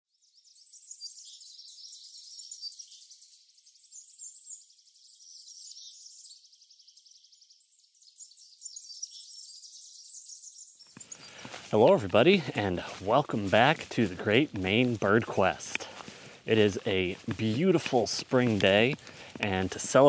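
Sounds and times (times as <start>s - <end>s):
songbirds chirping and trilling: 0.1s - 20.0s.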